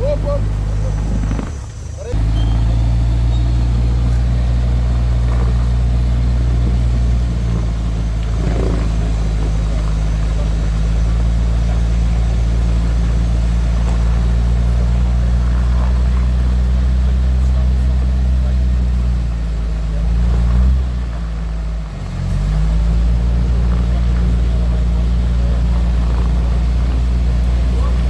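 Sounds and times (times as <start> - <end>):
vehicle engine running steadily: 0.0 - 28.0.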